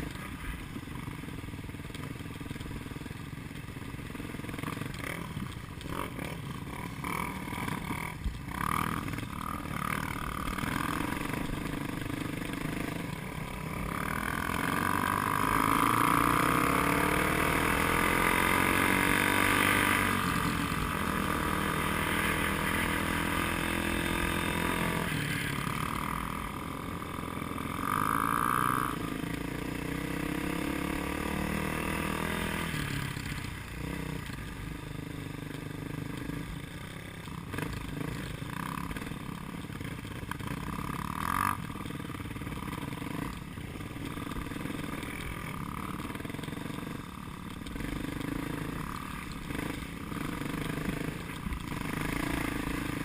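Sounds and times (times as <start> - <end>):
vehicle engine: 0.0 - 53.0.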